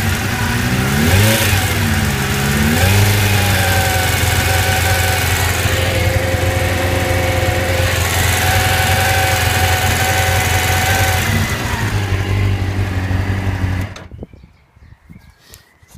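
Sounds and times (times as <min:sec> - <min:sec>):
engine ticking: 0:00.0 - 0:14.1
motorcycle engine idling: 0:00.0 - 0:14.2.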